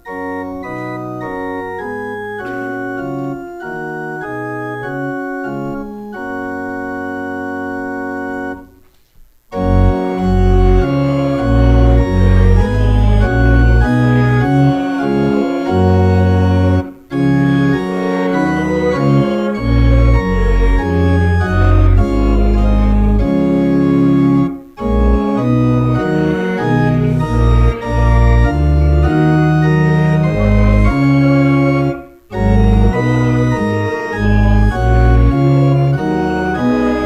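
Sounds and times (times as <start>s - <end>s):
organ playing a hymn: 0.0s - 8.8s, 9.5s - 37.0s.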